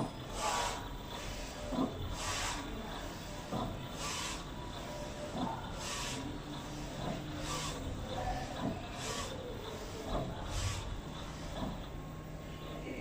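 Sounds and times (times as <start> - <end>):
printer carriage swishing: 0.0 - 12.0
printer low hum: 0.0 - 13.0.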